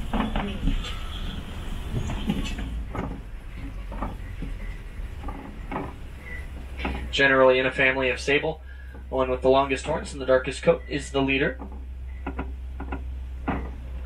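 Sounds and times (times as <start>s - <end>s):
truck engine rumble: 0.0s - 14.0s
vehicle knocks and rattles: 0.0s - 14.0s.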